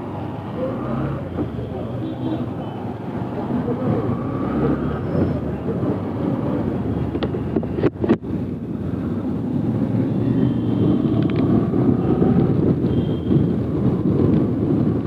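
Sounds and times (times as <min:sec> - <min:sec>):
tyre and wind noise: 0:02.9 - 0:15.0.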